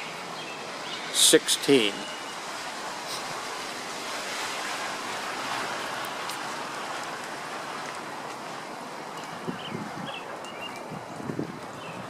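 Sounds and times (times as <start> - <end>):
tyres hissing on wet road: 0.0 - 9.7.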